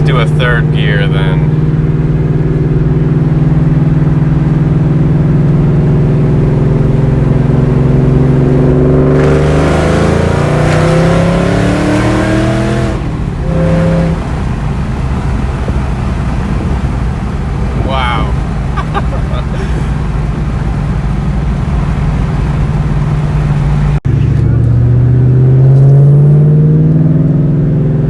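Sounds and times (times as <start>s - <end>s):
intake and wind rush: 0.0s - 24.0s
car engine accelerating: 0.0s - 28.0s.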